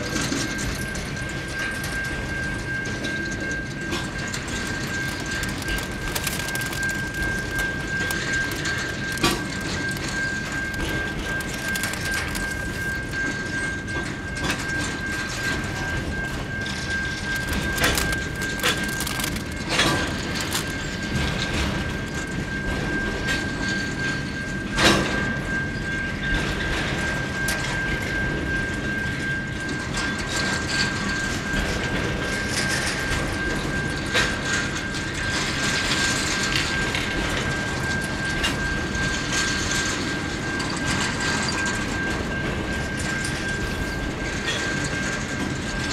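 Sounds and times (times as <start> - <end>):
freight train wheels rumbling on rails: 0.0 - 45.9
high-pitched ringing: 0.0 - 45.9.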